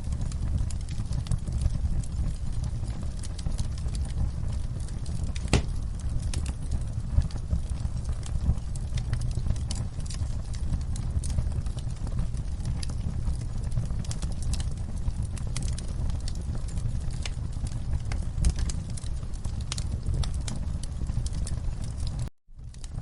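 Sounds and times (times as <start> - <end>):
burning logs crackling: 0.0 - 23.0
fire flames rumbling: 0.0 - 23.0.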